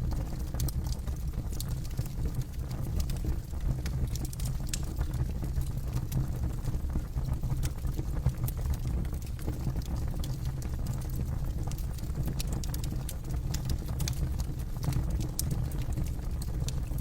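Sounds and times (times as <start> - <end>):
campfire crackling and popping: 0.0 - 17.0
low steady fire rumble: 0.0 - 17.0.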